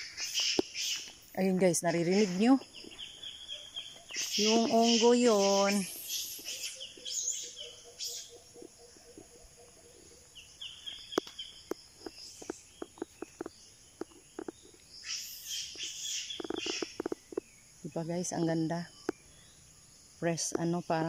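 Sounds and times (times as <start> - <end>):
bird chirps: 0.0 - 21.0
insect drone: 0.0 - 21.0.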